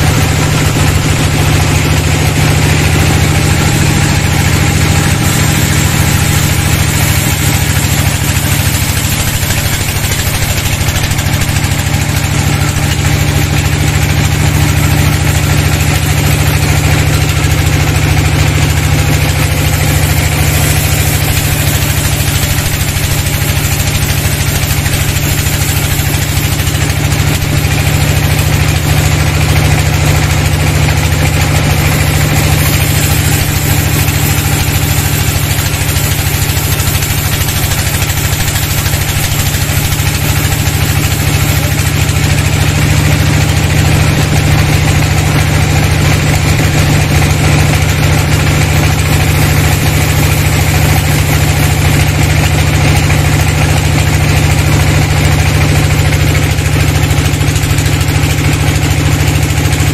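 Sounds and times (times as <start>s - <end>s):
band saw cutting wood: 0.0s - 59.9s
sawmill low hum: 0.0s - 59.9s.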